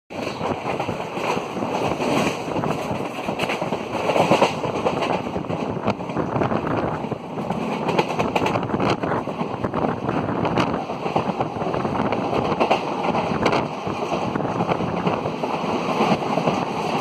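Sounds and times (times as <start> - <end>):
train wheels rushing on rail: 0.1 - 17.0
wind buffeting microphone: 0.2 - 17.0.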